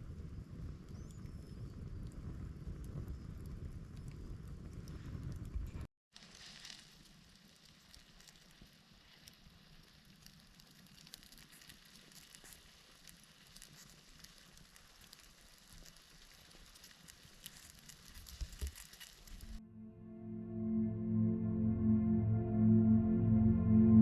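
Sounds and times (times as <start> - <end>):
campfire crackling: 0.0 - 19.6.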